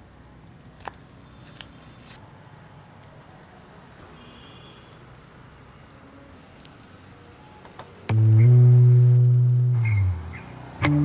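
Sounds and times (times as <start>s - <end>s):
faint street traffic hum: 0.0s - 11.0s.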